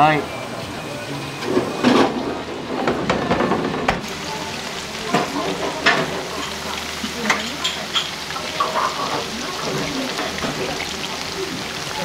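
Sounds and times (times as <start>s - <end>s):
deep-frying sizzle and crackle: 0.0s - 12.0s.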